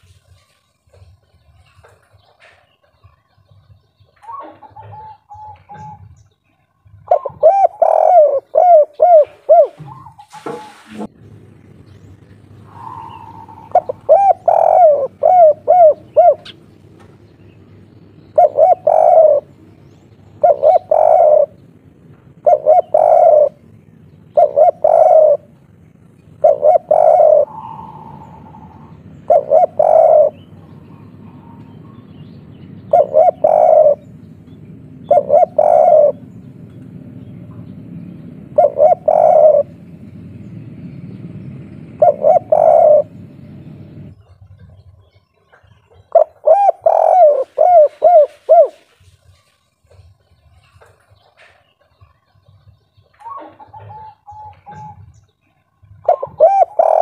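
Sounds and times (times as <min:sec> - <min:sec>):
dove cooing: 0:04.2 - 0:11.1, 0:11.8 - 0:49.3, 0:53.1 - 0:57.0.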